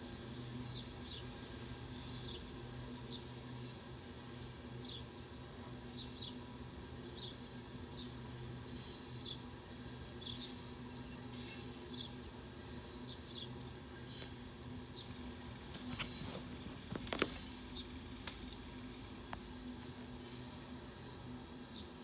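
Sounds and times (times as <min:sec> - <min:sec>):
low rumble and hum: 0:00.0 - 0:22.0.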